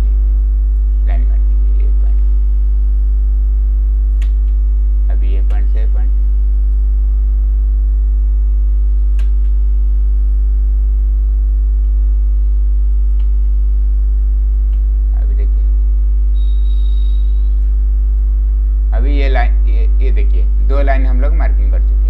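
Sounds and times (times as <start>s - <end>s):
thin high whine: 0.0s - 3.8s, 4.8s - 22.0s
electrical mains hum: 0.0s - 22.0s.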